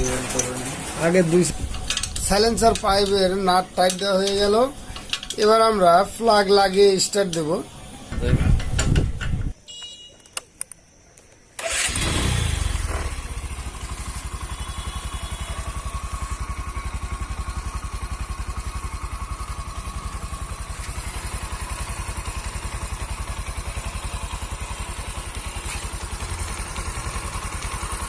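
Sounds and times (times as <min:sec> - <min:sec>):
motorcycle engine starting and idling: 0:00.0 - 0:09.6, 0:11.5 - 0:28.0.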